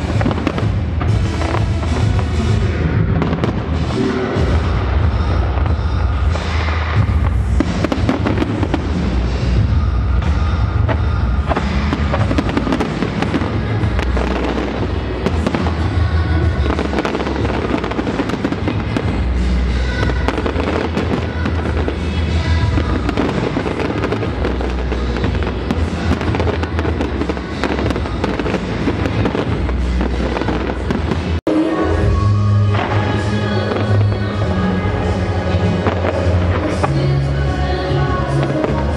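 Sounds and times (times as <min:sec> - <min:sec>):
fireworks bursting and crackling: 0:00.0 - 0:38.9
music playing: 0:00.0 - 0:38.9.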